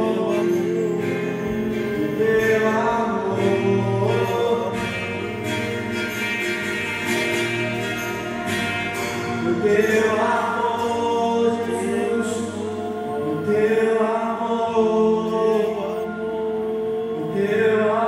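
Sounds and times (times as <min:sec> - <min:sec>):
worship music with singing: 0:00.0 - 0:18.0.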